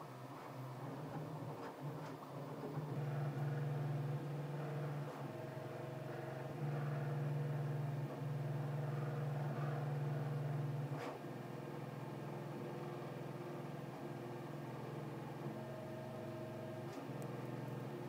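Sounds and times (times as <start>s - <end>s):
printer humming: 0.0s - 18.0s.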